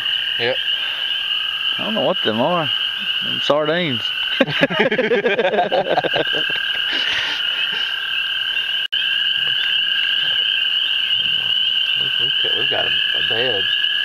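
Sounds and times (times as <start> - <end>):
chorus of frogs calling: 0.0 - 14.0.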